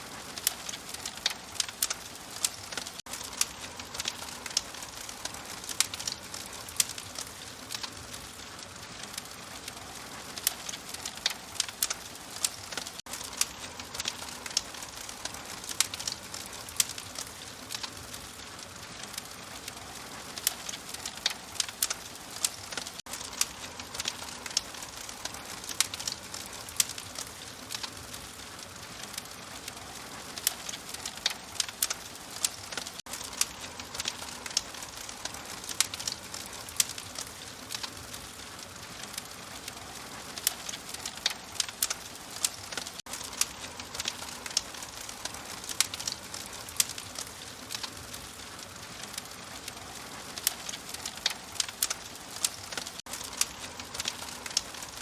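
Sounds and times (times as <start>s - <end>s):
fire pops and snaps: 0.0s - 55.0s
fire soft hiss: 0.0s - 55.0s.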